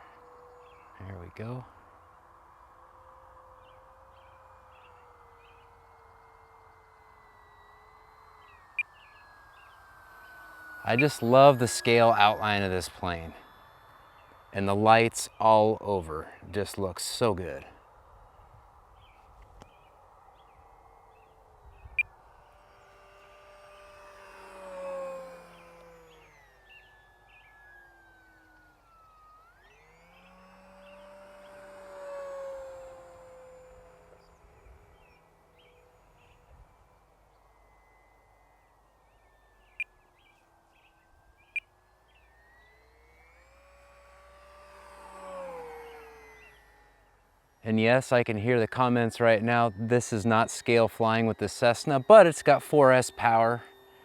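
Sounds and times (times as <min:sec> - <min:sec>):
distant model plane motor whine: 0:00.0 - 0:54.0.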